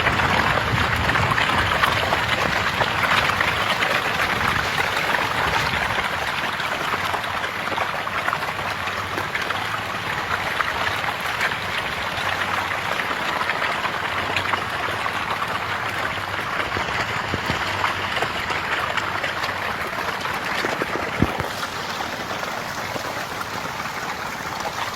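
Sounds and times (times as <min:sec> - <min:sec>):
fish splashing at water surface: 0:00.0 - 0:24.9.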